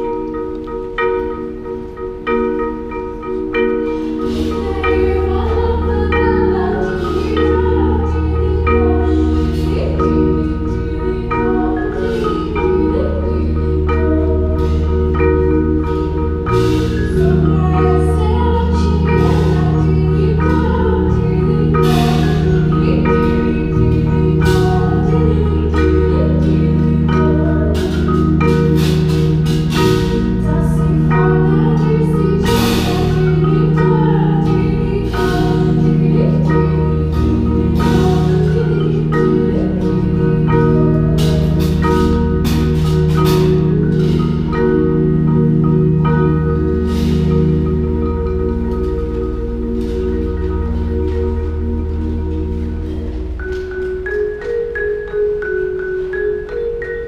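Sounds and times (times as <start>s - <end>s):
sustained low chords: 0.0s - 56.7s
marimbas playing: 0.0s - 57.0s
sharp percussion hits: 0.0s - 57.0s.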